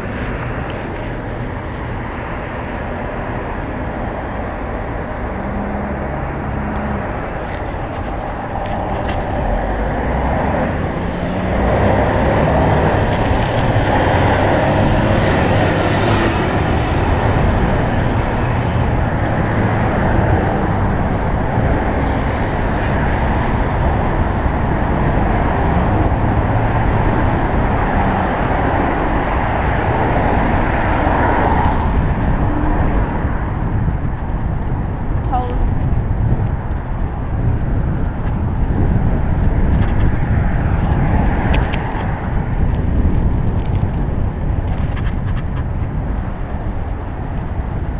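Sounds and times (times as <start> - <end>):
road traffic: 0.0 - 47.9
rushing noise of bicycle ride: 0.0 - 47.9.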